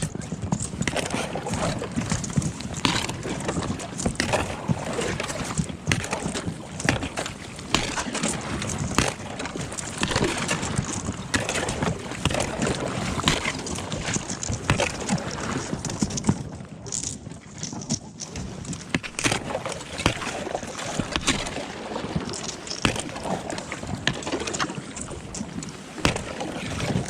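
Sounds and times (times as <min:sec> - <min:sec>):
thin ice cracking and crunching: 0:02.0 - 0:04.5, 0:05.5 - 0:21.6, 0:22.3 - 0:25.4.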